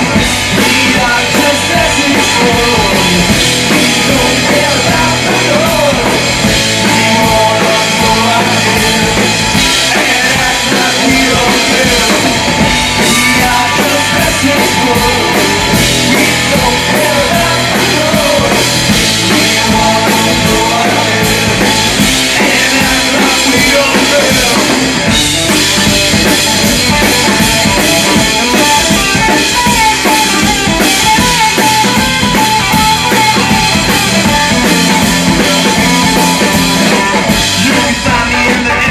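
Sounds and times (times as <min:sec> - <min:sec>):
distorted electric guitar: 0:00.0 - 0:38.9
drum kit: 0:00.0 - 0:38.9
electric bass: 0:00.0 - 0:38.9.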